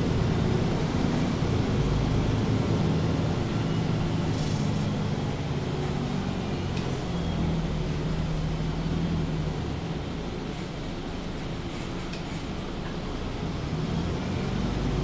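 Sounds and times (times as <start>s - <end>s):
bus diesel engine idling: 0.0s - 13.6s.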